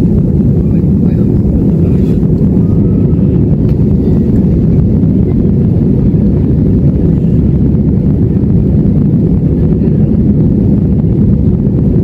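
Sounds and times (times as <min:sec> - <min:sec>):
jet cabin rumble: 0:00.0 - 0:12.0.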